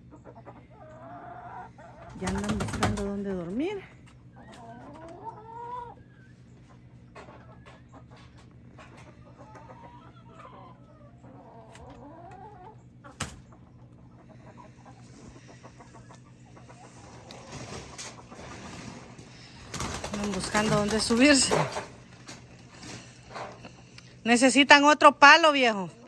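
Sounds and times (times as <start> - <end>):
hens clucking: 0.0 - 24.2.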